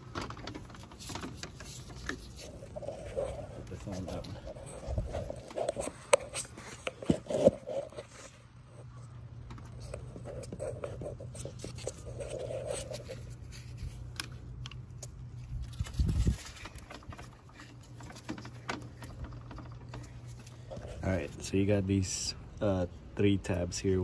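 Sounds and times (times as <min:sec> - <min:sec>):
plastic parts scraping and clicking: 0:00.0 - 0:08.2, 0:09.4 - 0:21.1
steady low hum: 0:00.0 - 0:24.0.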